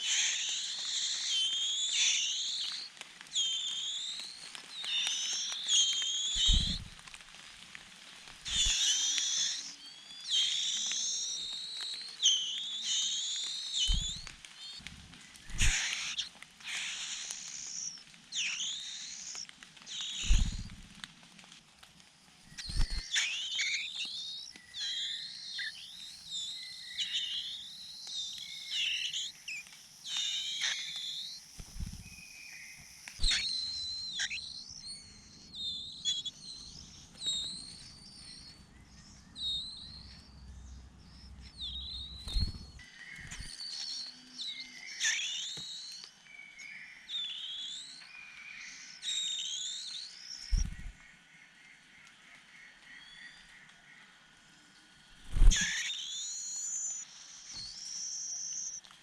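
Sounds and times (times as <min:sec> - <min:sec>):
small birds chirping: 0:00.0 - 0:07.4, 0:08.4 - 0:21.0, 0:22.5 - 0:59.0.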